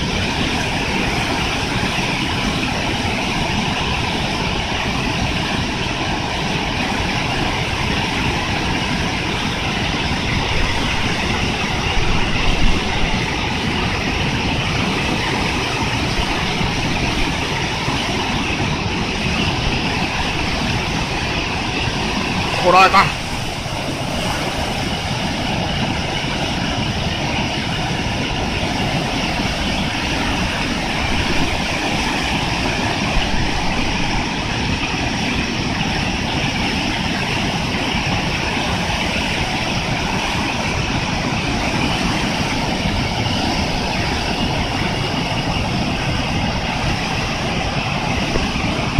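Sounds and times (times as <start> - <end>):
strong wind buffeting microphone: 0.0 - 48.9.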